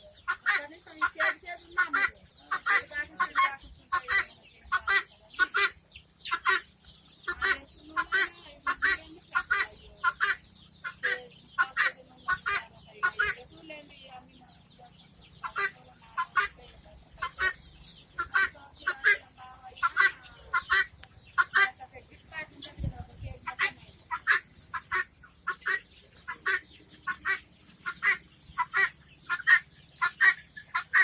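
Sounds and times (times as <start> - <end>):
guinea fowl calling: 0.0 - 31.0.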